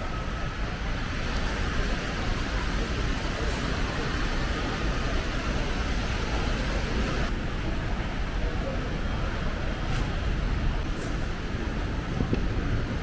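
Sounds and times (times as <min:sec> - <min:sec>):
airport terminal background noise: 0:00.0 - 0:13.0.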